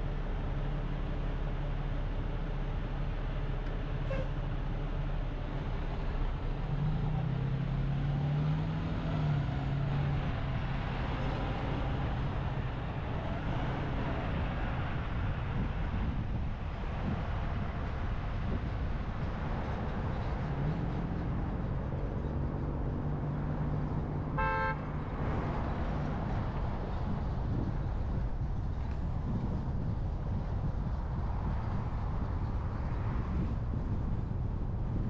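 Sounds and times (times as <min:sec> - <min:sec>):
car engine idling and accelerating: 0:00.0 - 0:35.0
traffic hum: 0:00.0 - 0:35.0.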